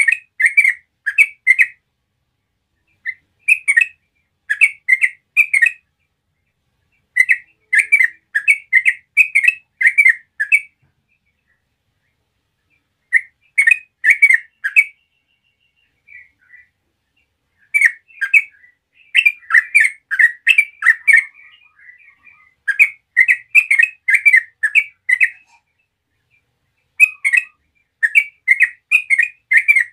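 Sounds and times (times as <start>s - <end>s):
bird chirping: 0.0s - 29.9s.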